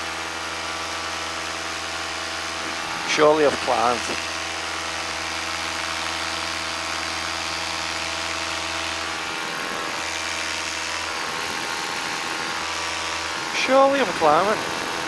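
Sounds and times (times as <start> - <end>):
paramotor engine and propeller: 0.0 - 15.0.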